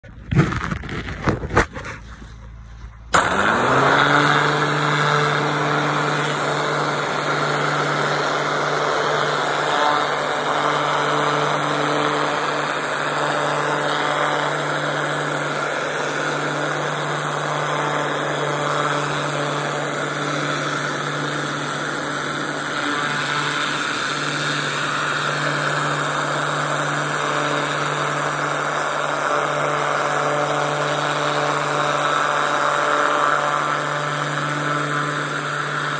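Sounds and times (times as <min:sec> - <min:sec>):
pressure washer motor hum: 0:03.0 - 0:35.9.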